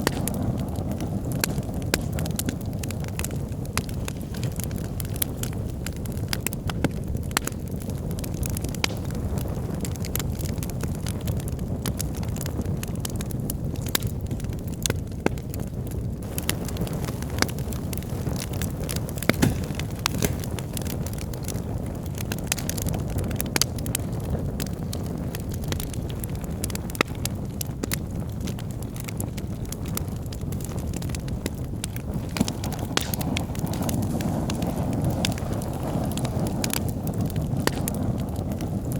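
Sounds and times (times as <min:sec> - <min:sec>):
logs burning in fireplace: 0:00.0 - 0:38.9.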